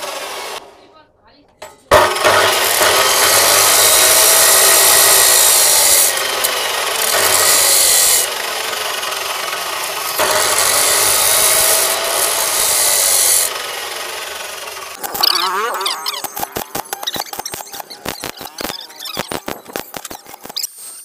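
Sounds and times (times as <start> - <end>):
grinder wheel grinding steel: 0.0 - 0.9, 1.6 - 20.8.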